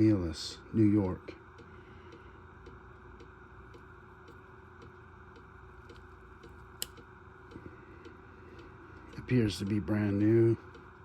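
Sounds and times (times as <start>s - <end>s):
soft regular ticking: 0.0s - 11.0s
steady hum: 0.0s - 11.0s.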